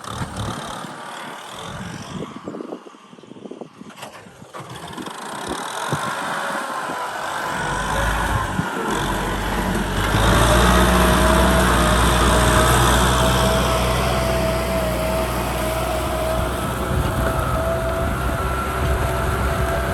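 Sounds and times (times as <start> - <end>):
engine whine: 0.0 - 19.9
tractor diesel engine droning: 3.9 - 19.9.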